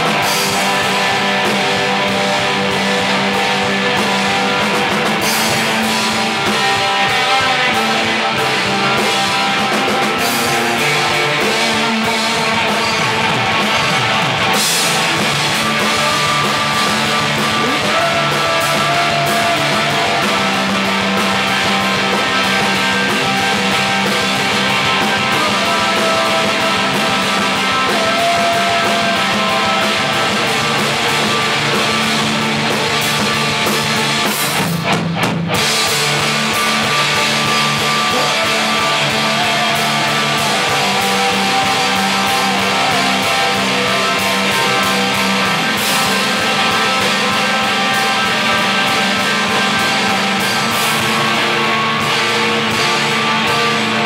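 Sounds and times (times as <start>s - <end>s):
rock music with drums and guitars: 0.0s - 54.0s.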